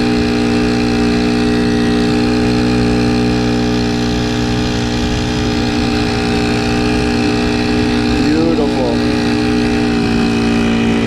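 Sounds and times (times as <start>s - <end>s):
small engine running steadily: 0.0s - 11.0s.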